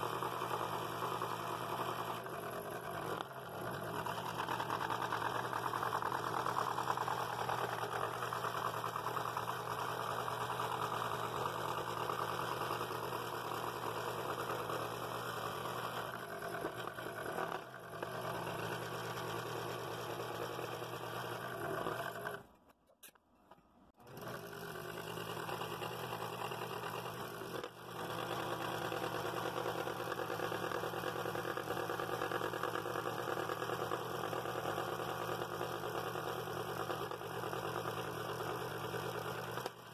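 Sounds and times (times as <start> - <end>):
scroll saw cutting wood: 0.0 - 22.6, 24.0 - 39.8.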